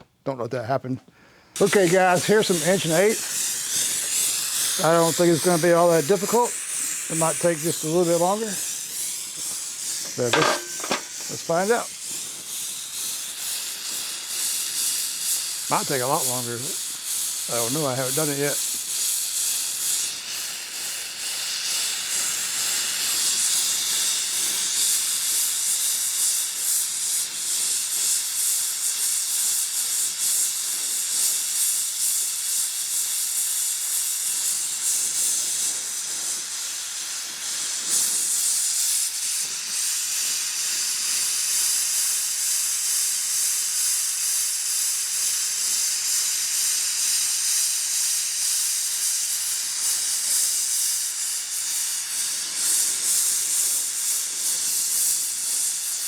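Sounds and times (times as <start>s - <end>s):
torch flame hissing: 1.2s - 56.0s.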